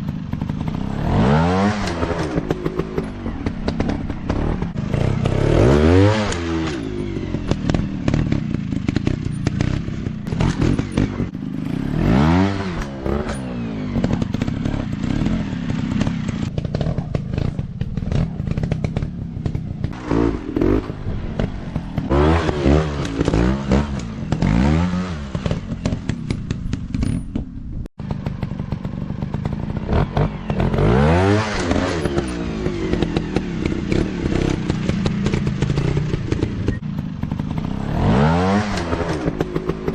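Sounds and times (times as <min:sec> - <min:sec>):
dirt bike engines revving: 0:00.0 - 0:27.0, 0:28.1 - 0:39.9.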